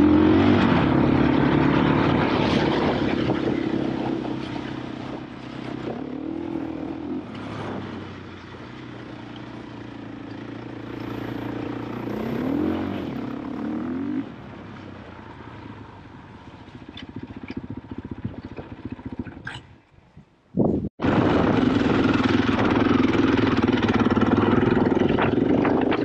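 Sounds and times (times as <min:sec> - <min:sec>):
motorcycle engine revving and idling: 0:00.0 - 0:19.8, 0:21.0 - 0:26.0.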